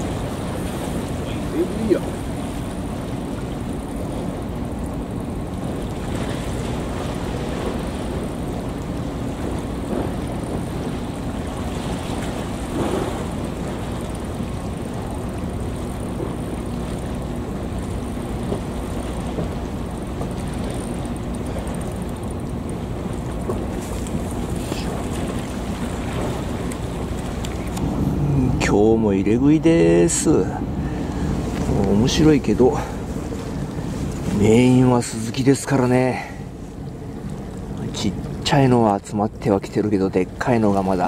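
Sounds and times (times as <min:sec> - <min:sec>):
faint steady hum: 0:00.0 - 0:41.0
water at waterside: 0:00.0 - 0:41.0.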